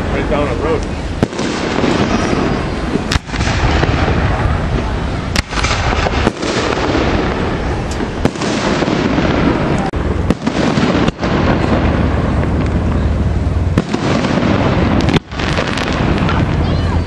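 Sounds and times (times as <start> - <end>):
continuous fireworks din: 0.0 - 17.0
firework shells booming: 0.0 - 17.0.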